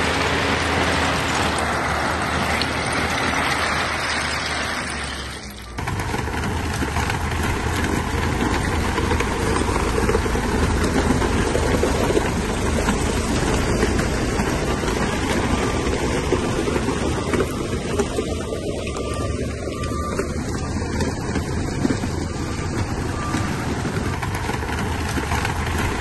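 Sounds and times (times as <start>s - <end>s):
diesel machinery engine running: 0.0s - 26.0s.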